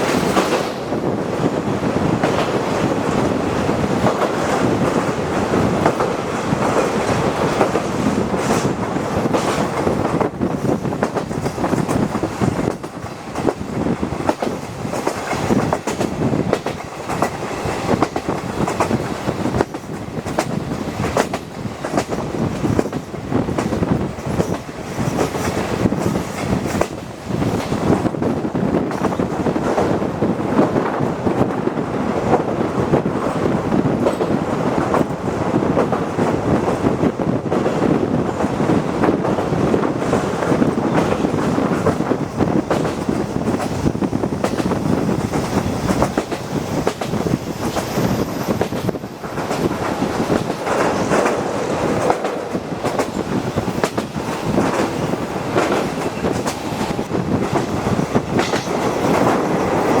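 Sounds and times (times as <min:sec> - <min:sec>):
wheels clacking over rail joints: 0:00.0 - 1:00.0
wheels rumbling on rail: 0:00.0 - 1:00.0.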